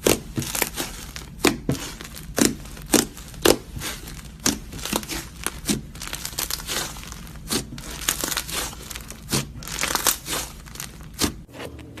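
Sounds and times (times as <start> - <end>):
slime squeezed crackling pops: 0.0 - 11.5.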